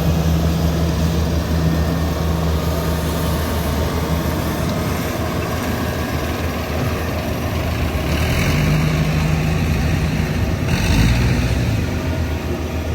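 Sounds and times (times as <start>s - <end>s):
combine harvester engines running: 0.0s - 12.9s
deeper engine hum: 0.0s - 12.9s.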